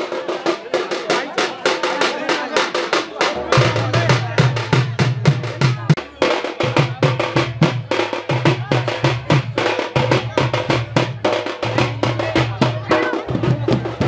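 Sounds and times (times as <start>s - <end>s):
fast drumming: 0.0s - 14.0s.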